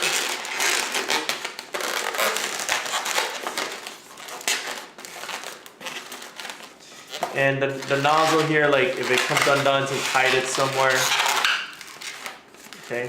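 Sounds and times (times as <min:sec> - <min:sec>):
balloon squeaking as it is twisted: 0:00.0 - 0:13.0.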